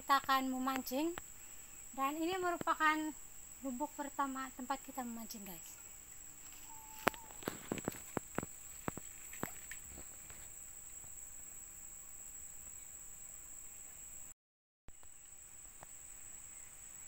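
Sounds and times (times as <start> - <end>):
high-pitched insect drone: 0.0 - 14.4, 15.0 - 17.0.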